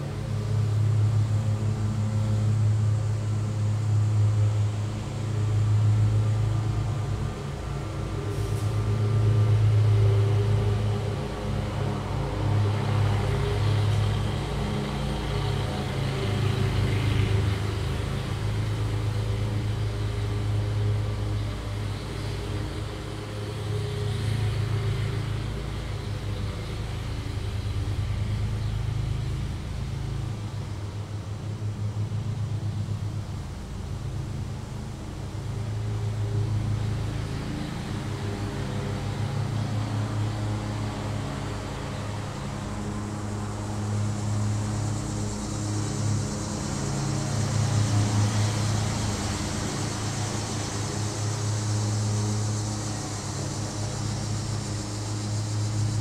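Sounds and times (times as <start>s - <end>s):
lawn mower engine running: 8.9s - 56.0s.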